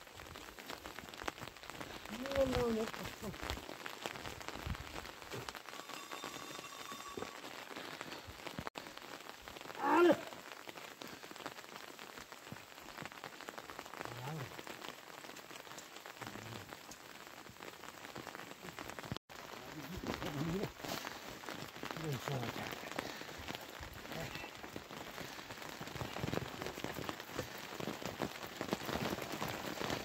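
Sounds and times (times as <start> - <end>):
rain pattering on wet ground: 0.0 - 30.0.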